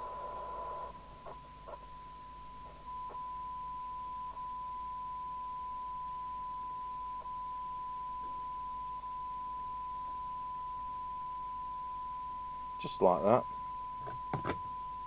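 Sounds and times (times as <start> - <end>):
steady test tone from radio speaker: 0.0 - 15.0.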